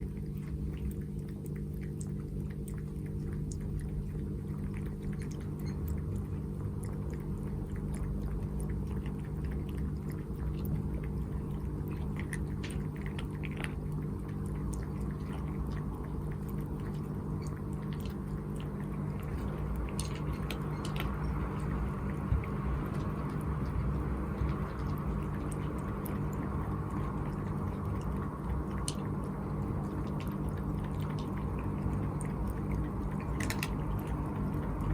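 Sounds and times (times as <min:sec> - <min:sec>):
cat lapping water: 0:00.0 - 0:34.9
small wet clicks: 0:00.0 - 0:34.9
steady low hum: 0:00.0 - 0:34.9.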